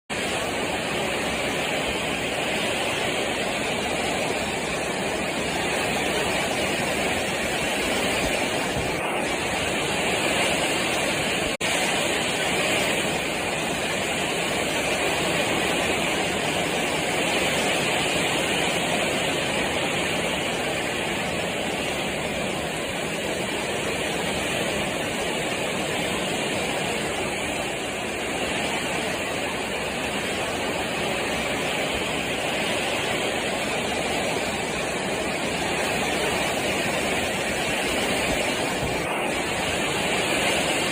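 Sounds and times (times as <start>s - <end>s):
heavy rain falling: 0.1s - 40.9s
strong wind: 0.1s - 40.9s.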